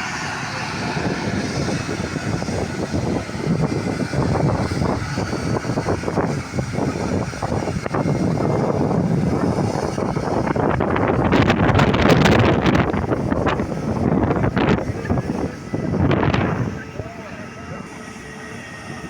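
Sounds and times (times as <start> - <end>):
aircraft rumble: 0.0 - 19.0
wind buffeting microphone: 0.0 - 19.0.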